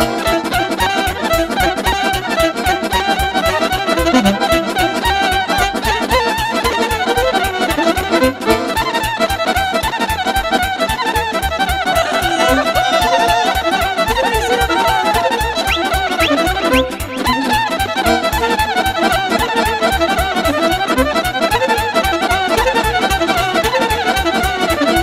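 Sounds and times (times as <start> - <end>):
band playing fast folk melody: 0.0 - 25.0.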